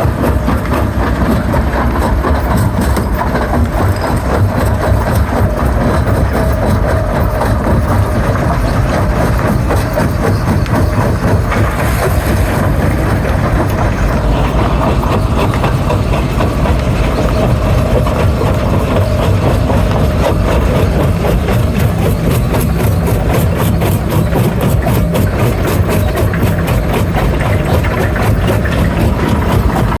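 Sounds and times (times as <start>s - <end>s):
stone crusher rumbling: 0.0s - 30.0s.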